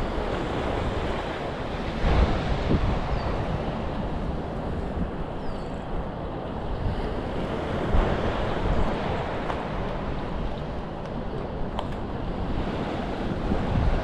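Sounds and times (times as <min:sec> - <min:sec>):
surf washing: 0:00.0 - 0:14.0
wind rumbling on microphone: 0:00.0 - 0:14.0.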